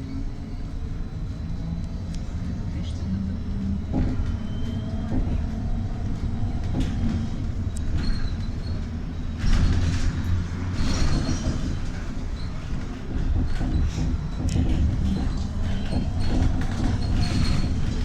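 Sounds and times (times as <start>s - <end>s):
trolleybus rumble from inside: 0.0s - 18.0s.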